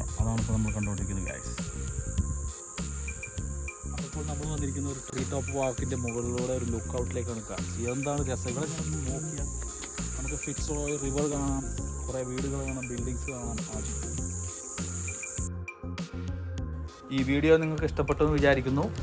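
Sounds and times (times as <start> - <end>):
insect chorus: 0.0 - 15.5
background music with bass: 0.0 - 19.0.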